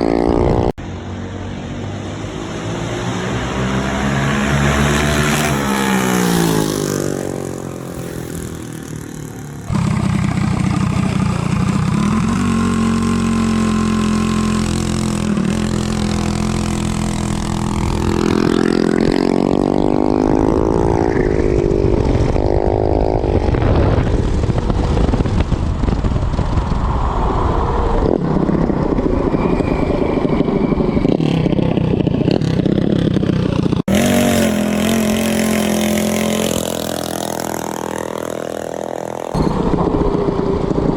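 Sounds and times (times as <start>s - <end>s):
minibike engine revving: 2.6s - 40.9s.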